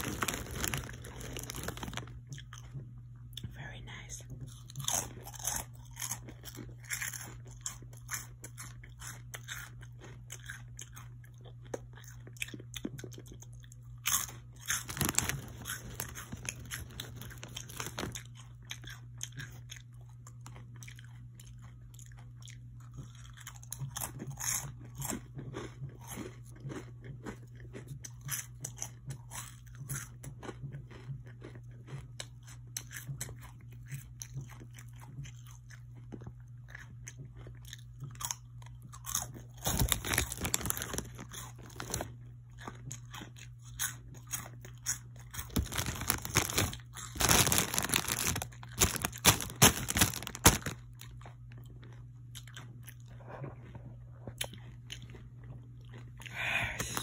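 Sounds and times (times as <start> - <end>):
crunchy snack chewing: 0.0 - 57.0.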